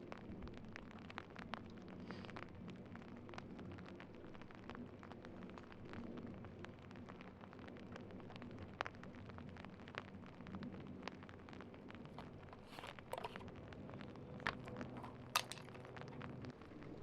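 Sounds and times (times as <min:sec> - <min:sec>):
faint crackling ticks: 0:00.0 - 0:17.0.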